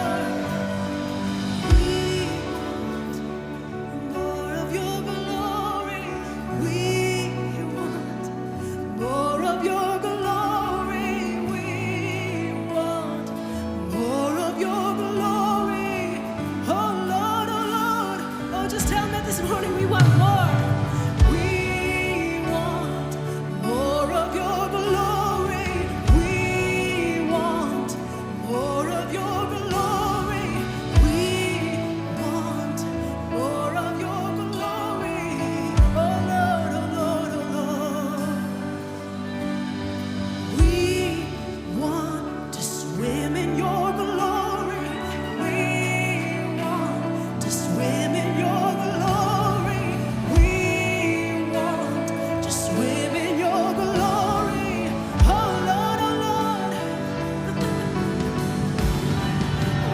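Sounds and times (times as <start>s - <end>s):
person singing with vibrato: 0.0s - 59.9s
sustained instrumental chords: 0.0s - 59.9s.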